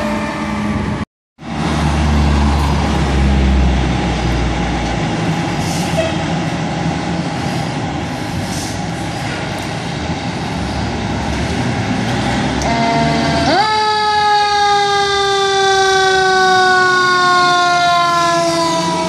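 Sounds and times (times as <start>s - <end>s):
fire truck engines rumbling: 0.0s - 19.0s.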